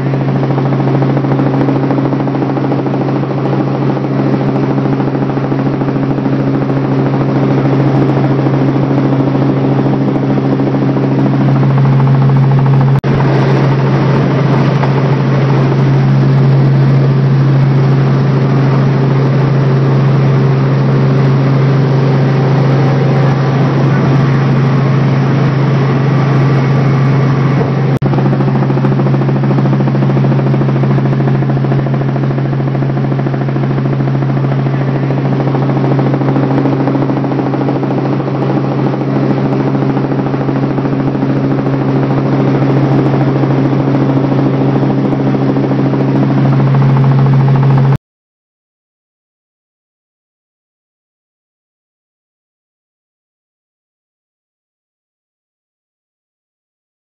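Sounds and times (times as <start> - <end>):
helicopter engine and rotor drone: 0.0 - 48.0.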